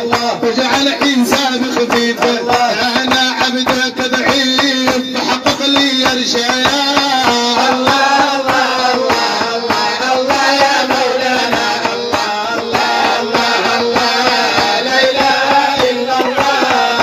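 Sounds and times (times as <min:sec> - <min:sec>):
devotional song with hand drum: 0:00.0 - 0:17.0.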